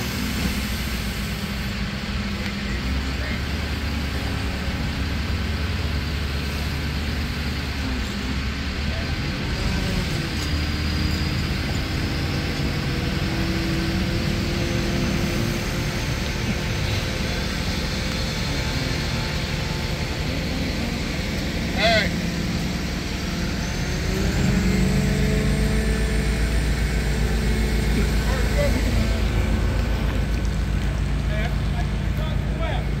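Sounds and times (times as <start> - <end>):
crane engine droning: 0.0 - 33.0.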